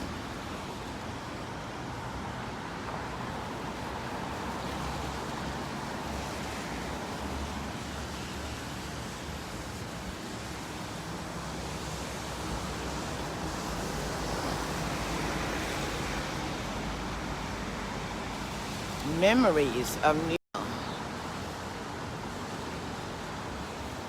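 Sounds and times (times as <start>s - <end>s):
traffic passing on road: 0.0s - 24.0s.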